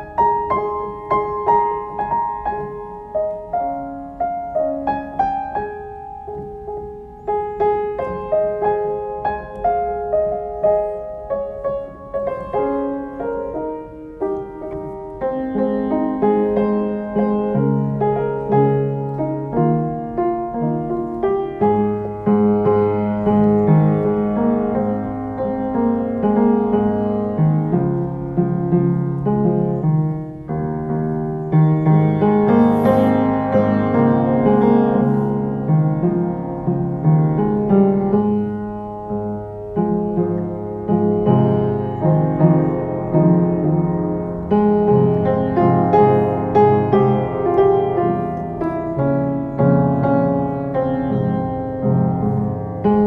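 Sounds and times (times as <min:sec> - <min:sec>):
solo piano playing: 0:00.0 - 0:53.0.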